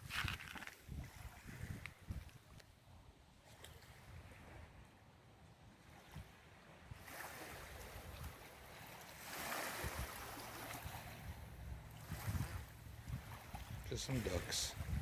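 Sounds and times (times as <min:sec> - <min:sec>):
small waves washing on shore: 0:00.0 - 0:15.0
wind rumble on microphone: 0:00.0 - 0:15.0.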